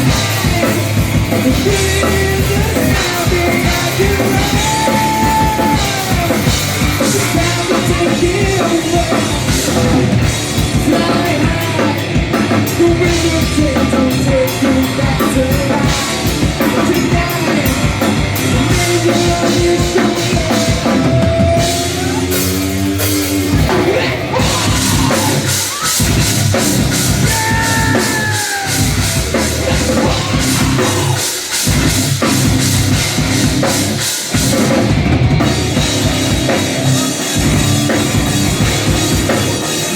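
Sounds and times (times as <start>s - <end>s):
drum kit pounding: 0.0s - 39.9s
heavy metal band playing live: 0.0s - 39.9s.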